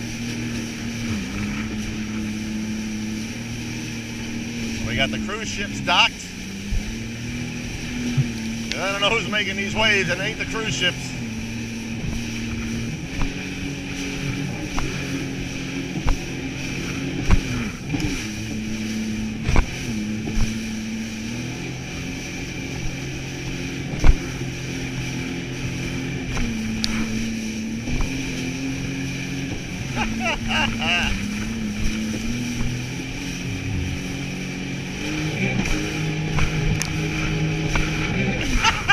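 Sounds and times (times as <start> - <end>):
hull thumping over waves: 0.0 - 38.9
jet ski engine running: 0.0 - 38.9.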